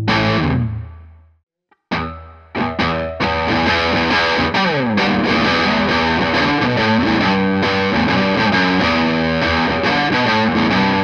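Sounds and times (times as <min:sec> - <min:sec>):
distorted electric guitar: 0:00.0 - 0:01.2, 0:01.8 - 0:11.0.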